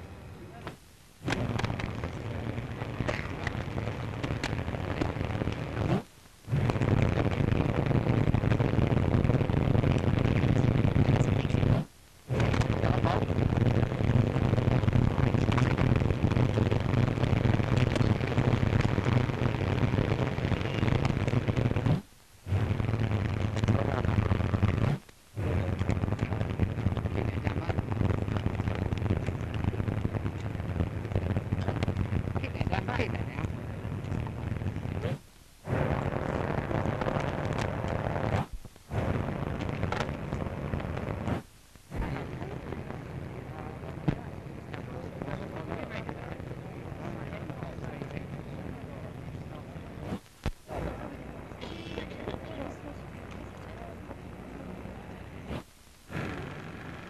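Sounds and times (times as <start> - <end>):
loud steady rushing noise: 0.0 - 57.0
rumbling noise with low hum: 0.0 - 57.0.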